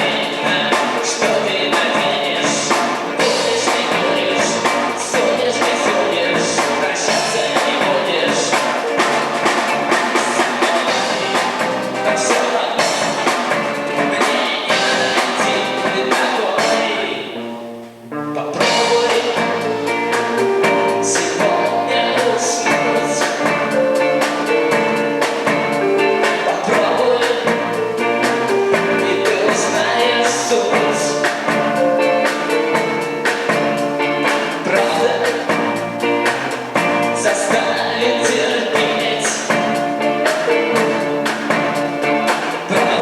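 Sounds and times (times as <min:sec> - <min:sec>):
live band playing: 0:00.0 - 0:43.0
person singing: 0:00.0 - 0:43.0.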